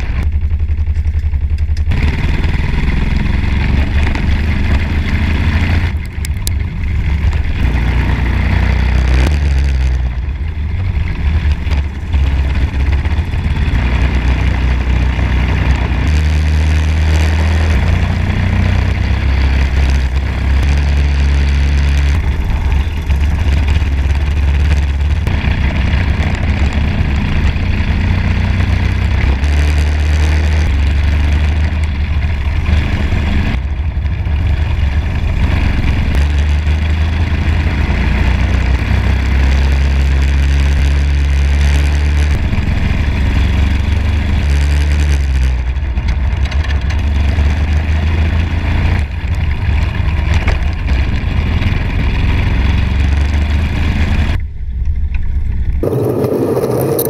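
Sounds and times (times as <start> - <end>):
kart engine running hard: 0.0 - 54.4, 55.8 - 57.0
wind and road noise: 0.0 - 57.0.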